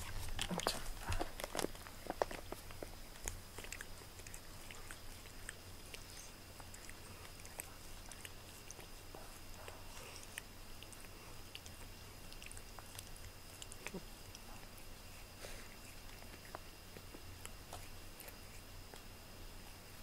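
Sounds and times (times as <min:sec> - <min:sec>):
cat licking its fur: 0:00.0 - 0:19.9.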